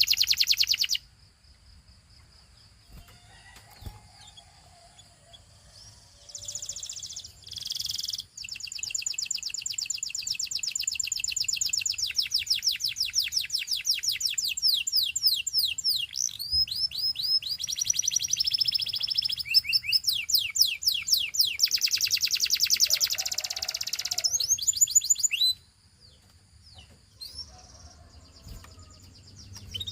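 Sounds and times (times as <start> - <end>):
canary singing trills: 0.0 - 1.0, 2.9 - 29.9.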